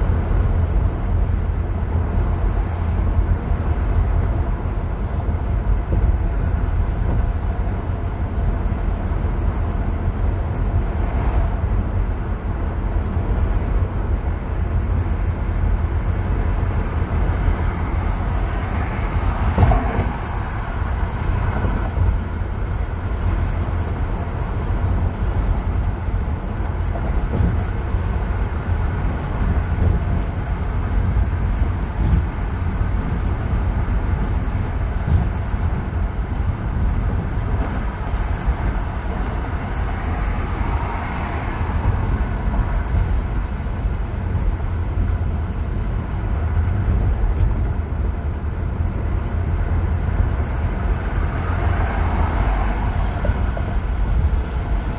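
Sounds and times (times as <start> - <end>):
car road rumble and tyre noise: 0.0 - 54.9.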